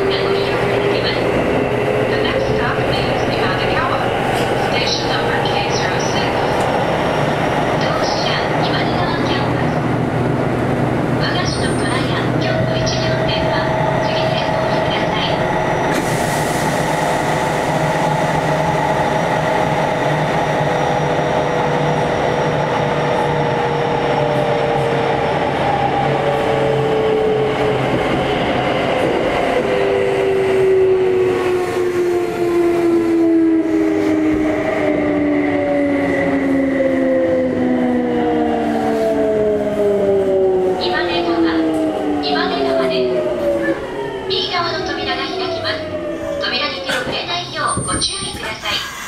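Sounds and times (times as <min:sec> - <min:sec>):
train inverter whine: 0:00.0 - 0:49.0
wheel and rail rumble: 0:00.0 - 0:49.0.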